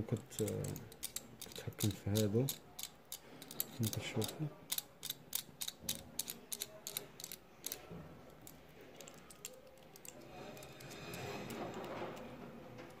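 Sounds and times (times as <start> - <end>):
faint handling sounds: 0.0 - 13.0.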